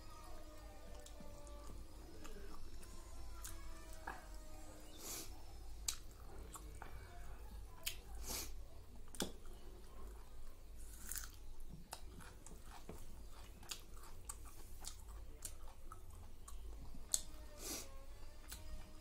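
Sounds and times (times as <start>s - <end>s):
person chewing food: 0.8s - 7.1s, 7.8s - 18.9s.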